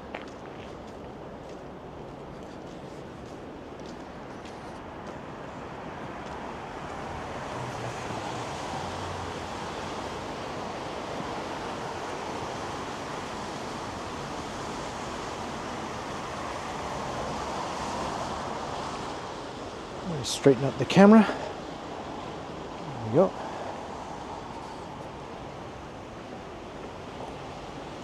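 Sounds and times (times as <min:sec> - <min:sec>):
city traffic rushing: 0:00.0 - 0:28.0.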